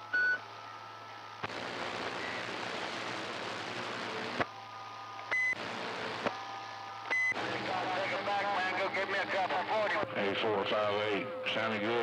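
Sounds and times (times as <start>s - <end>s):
radio static hiss: 0.4s - 12.0s.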